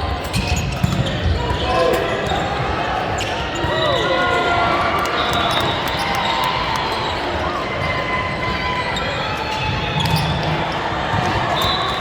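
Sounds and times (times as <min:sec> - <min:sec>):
crowd chatter: 0:01.4 - 0:12.0.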